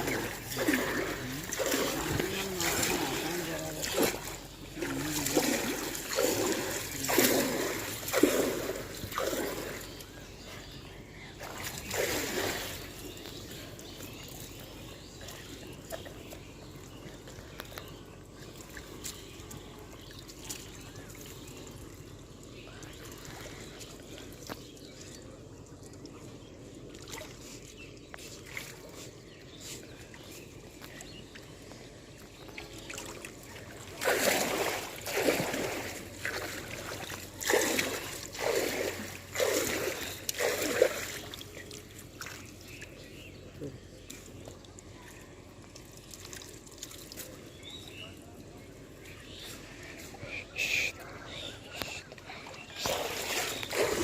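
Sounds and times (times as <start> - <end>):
water splashing: 0.0 - 10.8, 11.4 - 26.1, 26.8 - 48.2, 51.7 - 54.0
steady water sounds: 0.0 - 54.0.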